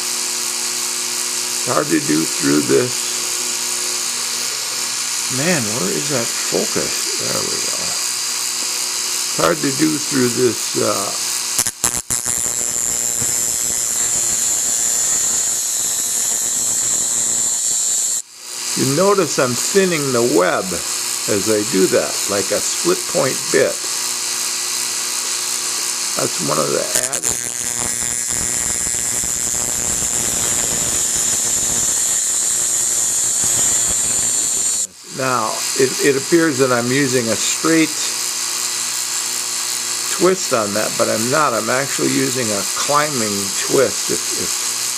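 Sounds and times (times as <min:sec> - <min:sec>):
rotary tool grinding drill bit: 0:00.0 - 0:44.9.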